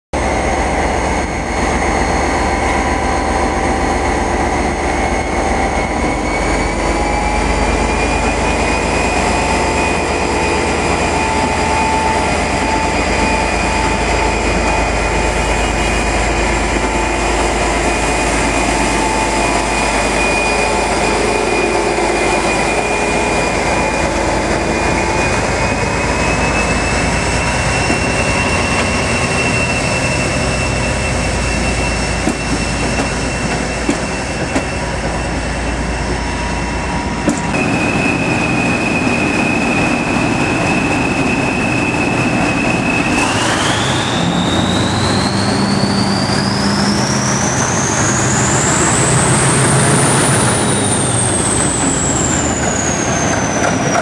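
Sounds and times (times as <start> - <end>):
diesel locomotive engine: 0.1 - 54.0
turbocharger whine: 0.2 - 54.0.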